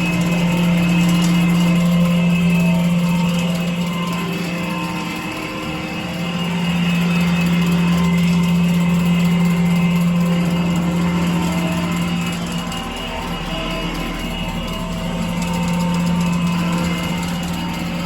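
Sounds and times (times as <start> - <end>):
floor scrubber hum and whine: 0.0 - 18.0.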